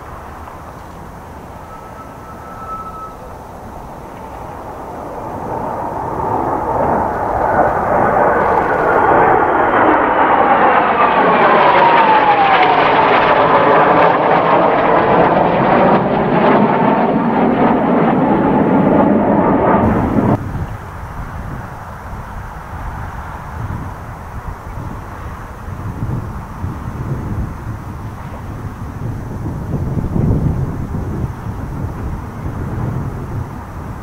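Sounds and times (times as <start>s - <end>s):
jets passing overhead: 0.0s - 34.0s.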